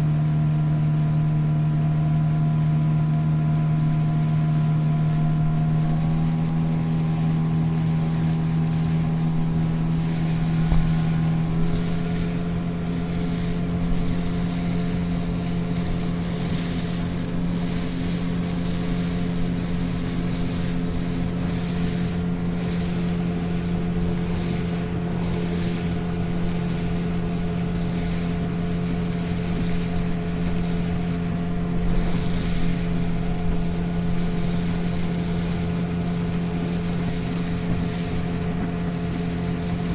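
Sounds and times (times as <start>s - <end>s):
motorboat engine running: 0.0s - 39.9s
wind: 0.0s - 39.9s.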